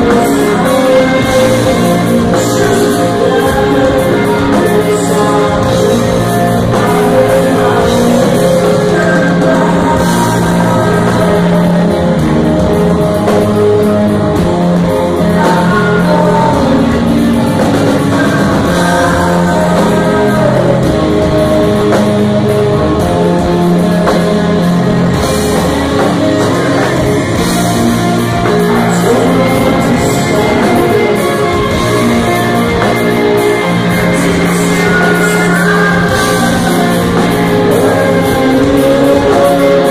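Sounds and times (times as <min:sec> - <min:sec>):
live rock band: 0:00.0 - 0:39.9
person singing lead vocal: 0:00.0 - 0:39.9.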